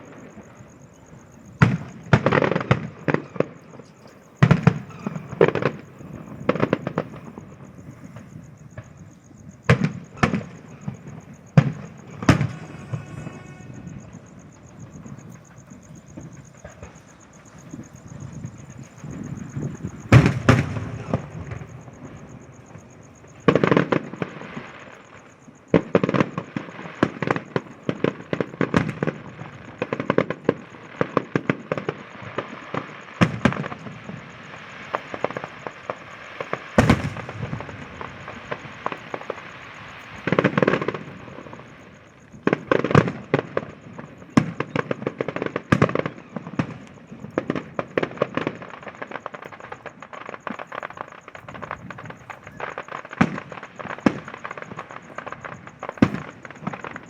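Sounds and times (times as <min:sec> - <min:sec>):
firecrackers crackling: 0:00.0 - 0:57.0
firework bangs: 0:00.0 - 0:57.0.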